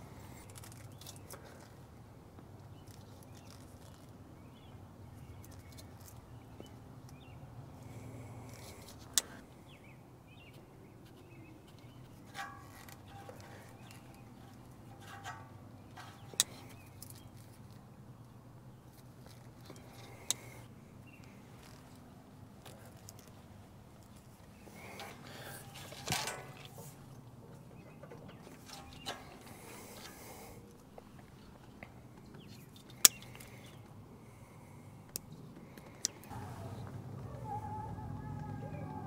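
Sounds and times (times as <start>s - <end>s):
wire handling clicks and rustles: 0.0s - 9.8s, 10.4s - 34.0s.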